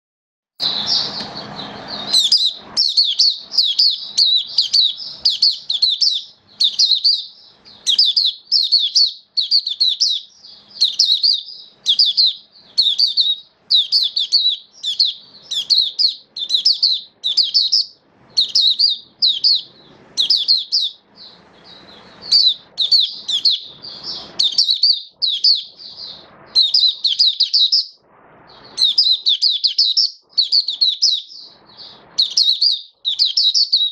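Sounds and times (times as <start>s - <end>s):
bird twittering song: 0.6s - 33.9s.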